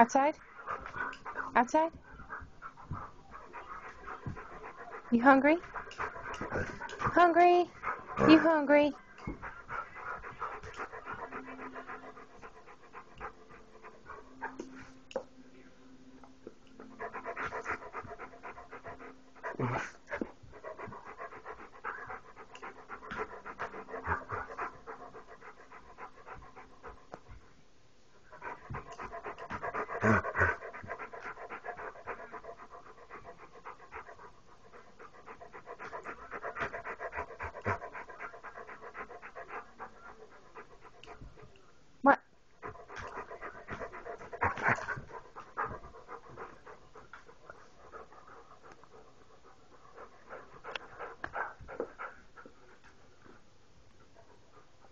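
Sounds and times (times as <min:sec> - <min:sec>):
dog panting: 0:00.0 - 0:15.2, 0:16.7 - 0:27.5, 0:28.2 - 0:41.6, 0:42.5 - 0:54.9.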